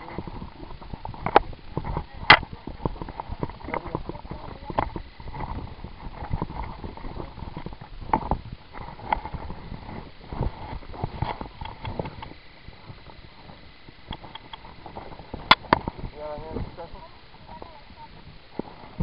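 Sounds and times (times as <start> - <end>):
footsteps on gravel: 0.0 - 16.2.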